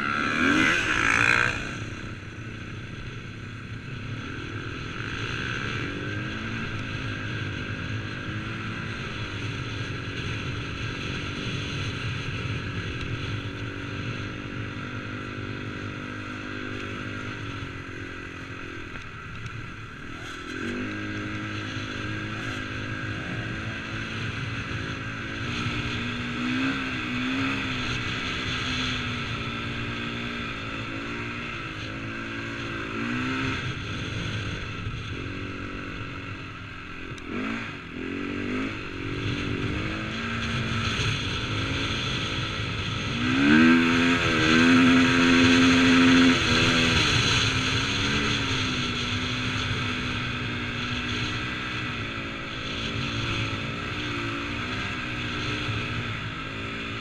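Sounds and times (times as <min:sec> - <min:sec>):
motocross bike engine revving: 0:00.0 - 0:03.0, 0:03.9 - 0:57.0.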